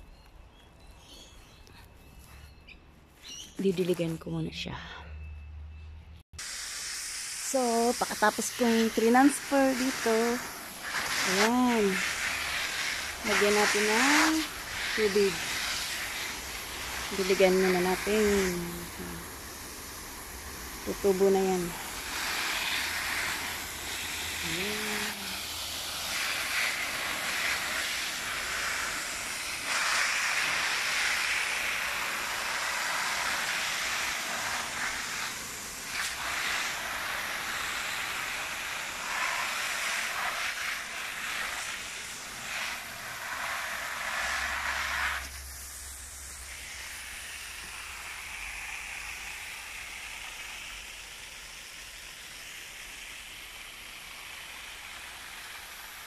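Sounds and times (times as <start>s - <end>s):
hose nozzle spray hissing: 6.4s - 56.0s.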